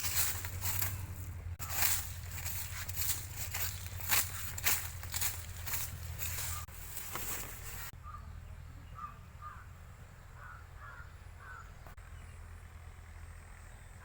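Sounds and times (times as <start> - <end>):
bird calling: 0.0 - 12.2.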